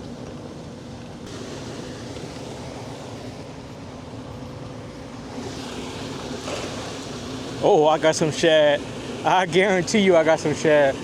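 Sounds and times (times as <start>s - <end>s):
boat motor humming: 0.0s - 11.0s
wind: 0.0s - 11.0s
water noise: 1.2s - 11.0s.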